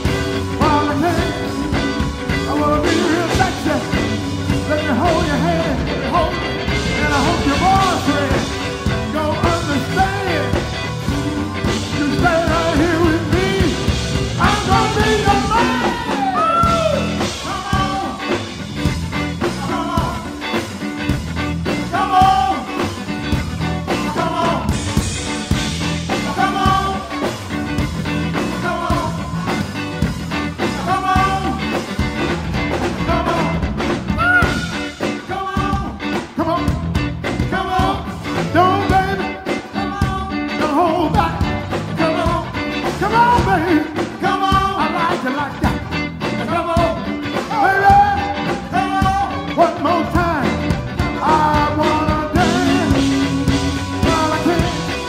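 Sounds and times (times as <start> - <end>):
person singing: 0.0 - 20.7, 21.7 - 25.2, 25.8 - 29.8, 30.6 - 32.1, 32.8 - 55.0
blues band playing: 0.0 - 55.0.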